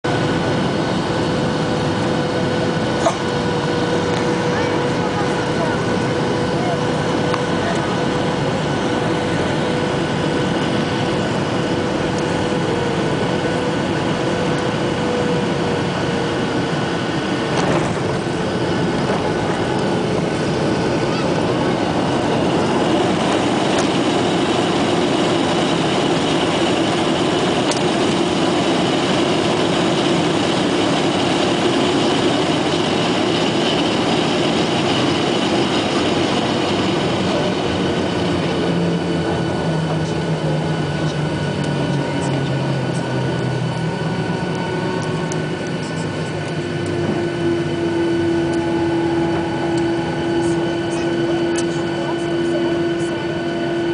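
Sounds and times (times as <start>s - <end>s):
engine hum with whining tones: 0.0s - 53.9s
jet engine rushing noise in cabin: 0.0s - 53.9s.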